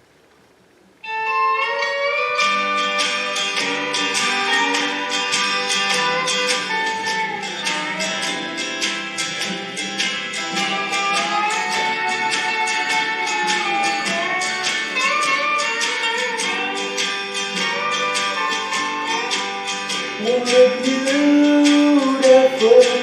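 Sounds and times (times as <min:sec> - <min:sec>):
held melody line: 0:01.0 - 0:23.0
strummed guitar: 0:01.0 - 0:23.0.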